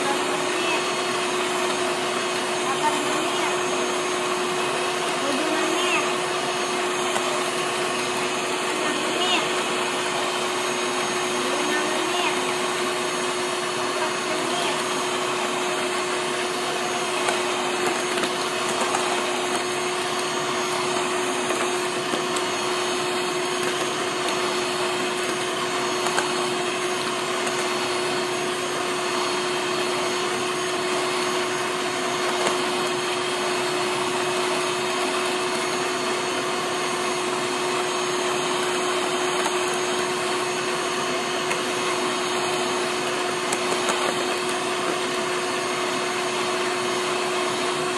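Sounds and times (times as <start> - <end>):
electric hand mixer whipping eggs: 0.0 - 47.9.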